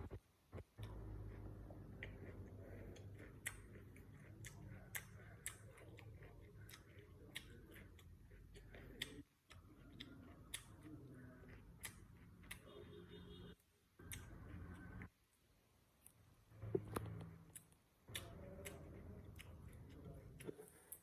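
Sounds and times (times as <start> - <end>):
low steady hum: 0.0 - 21.0
chewing crunches: 0.8 - 13.3, 16.0 - 21.0.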